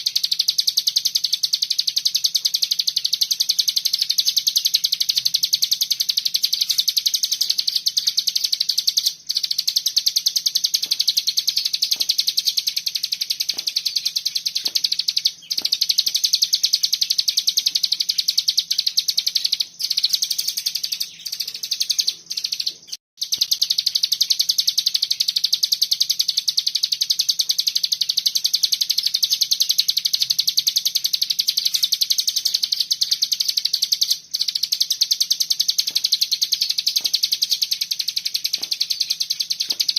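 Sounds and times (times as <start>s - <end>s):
songbird singing rapid high notes: 0.0s - 39.9s.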